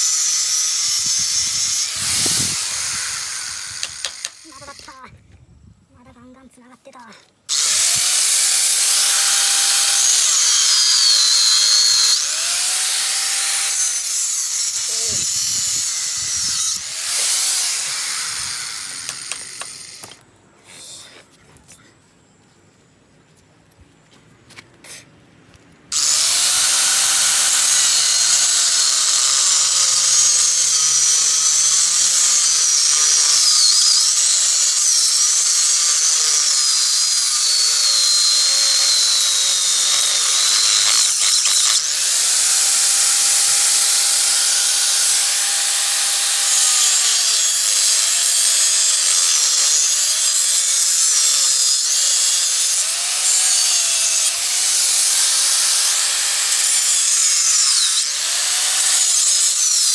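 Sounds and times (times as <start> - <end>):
electric power tool running: 0.0 - 4.9, 7.5 - 20.2, 25.9 - 59.9.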